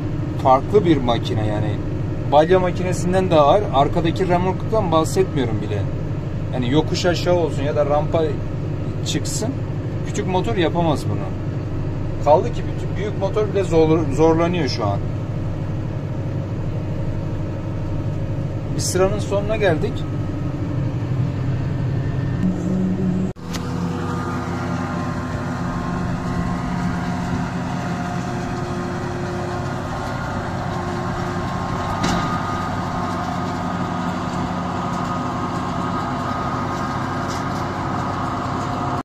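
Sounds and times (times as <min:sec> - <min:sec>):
tractor and forage harvester droning: 0:00.0 - 0:39.0.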